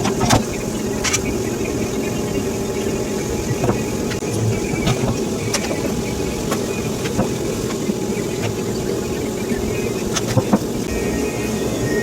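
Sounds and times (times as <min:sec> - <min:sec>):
sharp crackles and pops: 0:00.0 - 0:10.9
plasma cutter arc hissing: 0:00.0 - 0:12.0.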